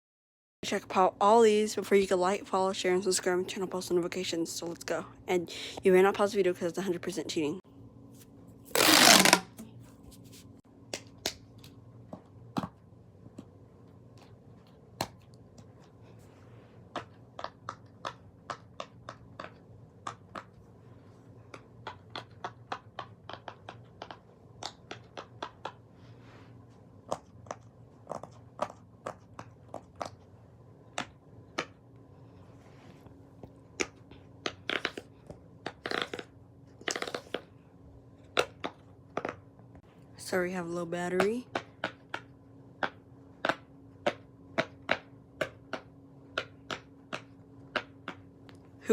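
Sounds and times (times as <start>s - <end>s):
faint steady hum: 0.6s - 48.9s.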